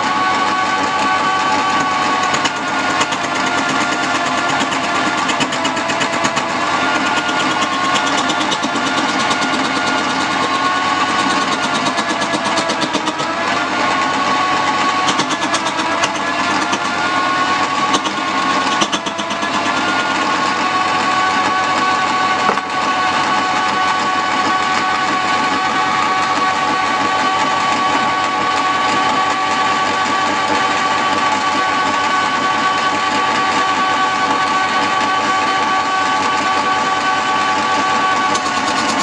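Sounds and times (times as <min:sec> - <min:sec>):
lathe whining: 0:00.0 - 0:39.0
tool scraping spinning wood: 0:00.0 - 0:39.0.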